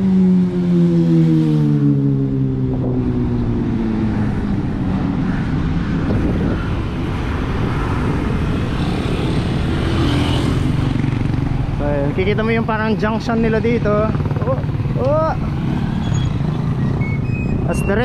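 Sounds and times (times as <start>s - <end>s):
road rushing noise: 1.1s - 18.0s.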